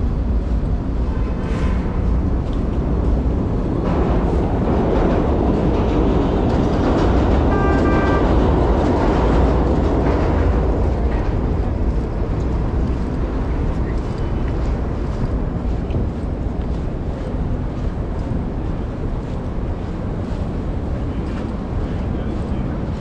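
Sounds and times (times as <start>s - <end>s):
city street rumble: 0.0s - 23.0s.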